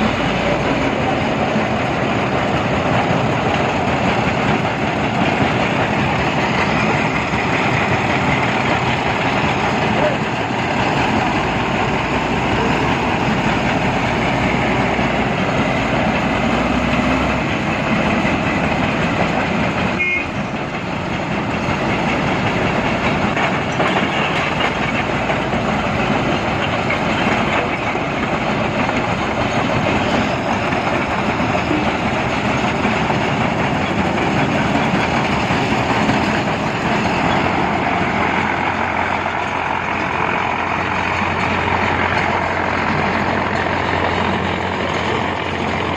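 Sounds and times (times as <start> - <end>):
heavy construction machinery running: 0.0 - 45.9.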